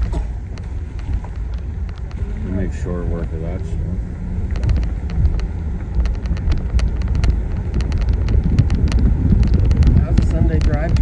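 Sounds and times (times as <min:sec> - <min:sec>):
sharp ticks and clicks: 0:00.0 - 0:03.6, 0:04.4 - 0:11.0
road and wind rumble: 0:00.0 - 0:11.0.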